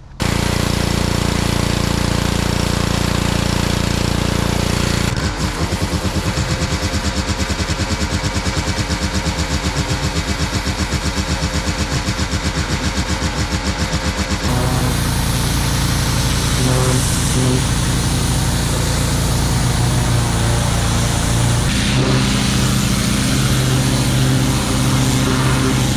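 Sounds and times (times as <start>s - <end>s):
machine engine pulsing rapidly: 0.0s - 25.9s
steady engine drone: 0.0s - 25.9s.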